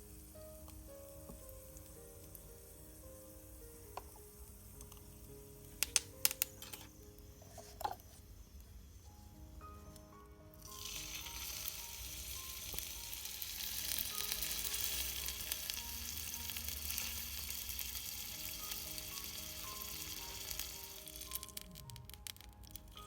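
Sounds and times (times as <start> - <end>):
food sizzling in a pan: 0.0 - 9.9, 10.5 - 23.0.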